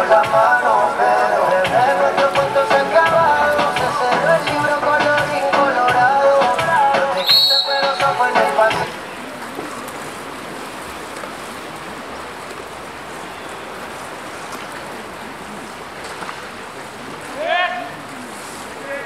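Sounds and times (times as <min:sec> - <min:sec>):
pool water splashing: 0:00.0 - 0:19.0.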